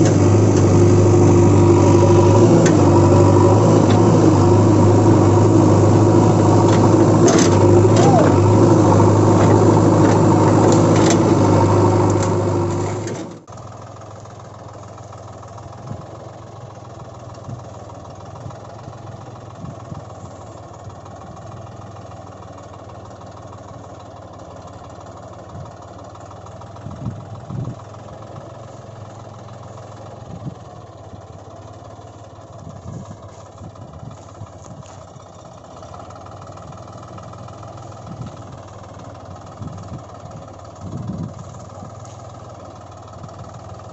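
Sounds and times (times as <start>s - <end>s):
engine drone: 0.0s - 43.9s.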